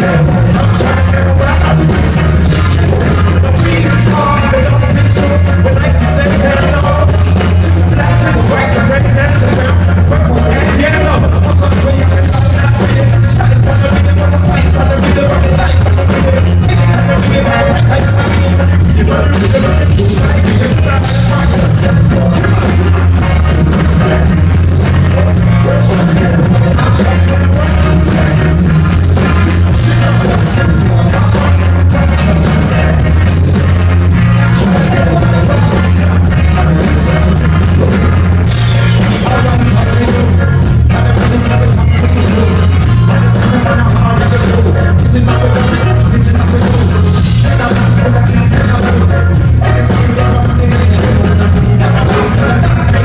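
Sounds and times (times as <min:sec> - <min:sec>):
live band playing: 0:00.0 - 0:53.0
person singing: 0:00.0 - 0:53.0
steady drum beat: 0:00.0 - 0:53.0.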